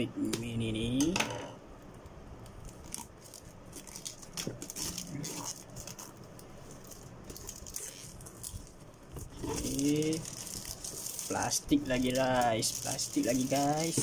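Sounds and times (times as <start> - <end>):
plastic-wrapped box rustling: 2.7 - 14.0.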